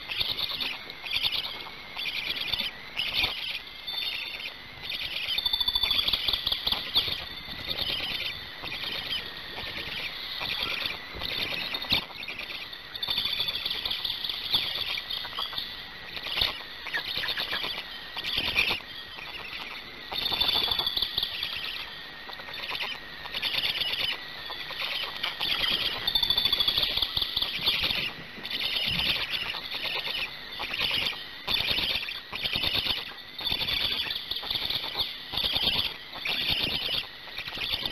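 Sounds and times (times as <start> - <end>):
stork chicks begging calls: 0.0 - 37.9.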